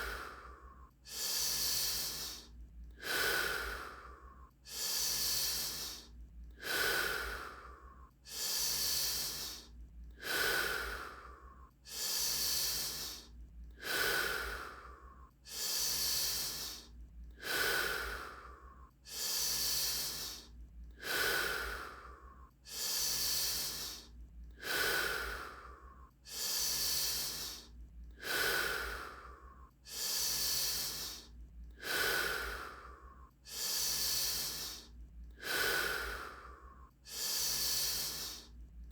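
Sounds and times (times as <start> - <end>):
person breathing deeply: 0.0 - 38.6.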